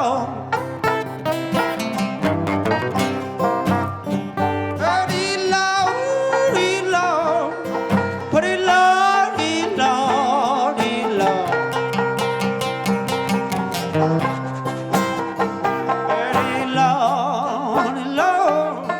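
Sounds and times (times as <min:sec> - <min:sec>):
acoustic guitar: 0:00.0 - 0:18.9
banjo: 0:00.0 - 0:18.9.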